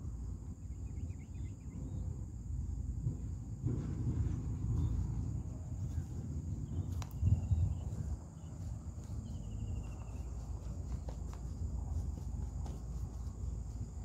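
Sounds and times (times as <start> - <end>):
insect trills: 0.0 - 14.0
wind and handling rumble on microphone: 0.0 - 14.0.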